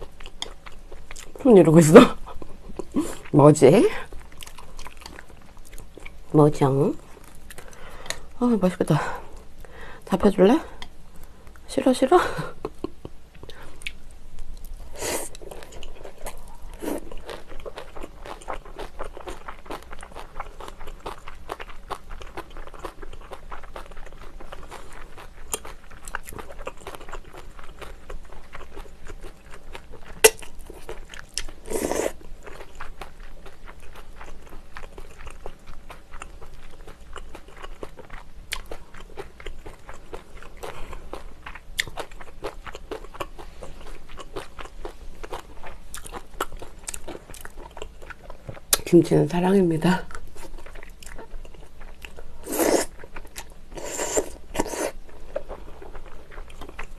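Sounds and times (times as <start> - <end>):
person chewing stew: 0.0 - 1.5, 2.2 - 6.3, 7.0 - 8.4, 12.5 - 48.9, 50.0 - 56.9.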